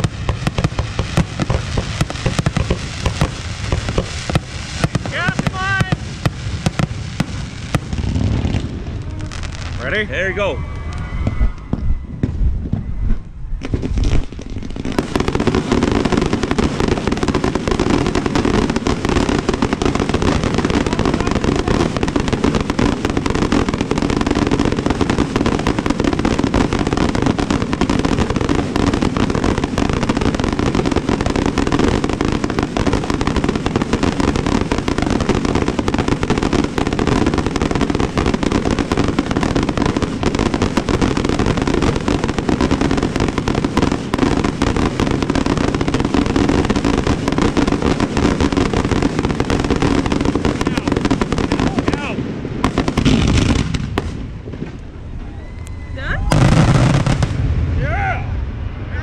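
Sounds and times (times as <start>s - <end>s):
rapid rattle of fireworks: 0.0s - 58.0s
fireworks bangs: 0.0s - 59.0s.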